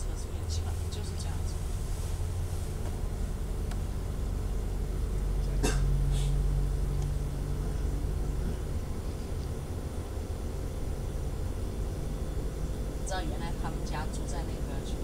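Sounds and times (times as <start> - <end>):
low hum: 0.0 - 15.0
train rumbling on rails: 0.0 - 15.0.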